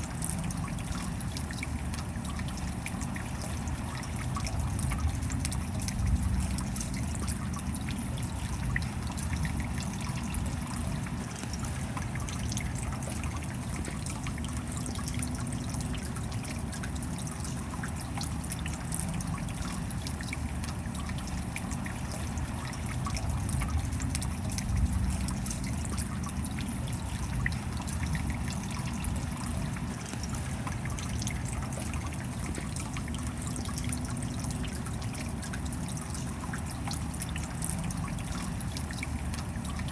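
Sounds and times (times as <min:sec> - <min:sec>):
steady rain: 0:00.0 - 0:39.9
water trickling and dripping: 0:00.0 - 0:39.9.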